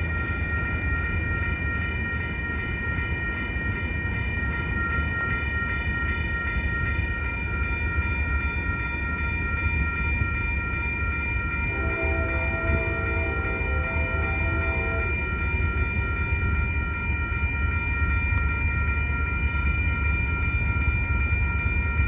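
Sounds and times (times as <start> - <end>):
railroad crossing bells ringing: 0.0 - 22.0.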